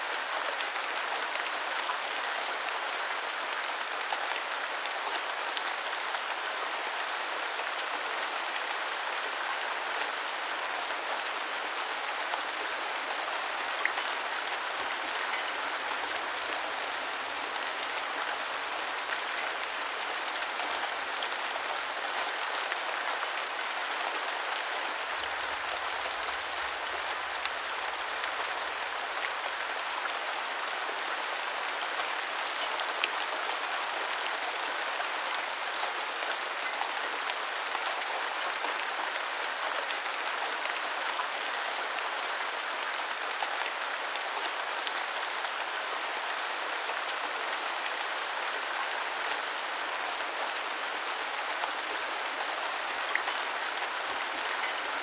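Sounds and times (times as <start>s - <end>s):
rain pattering: 0.1s - 55.0s.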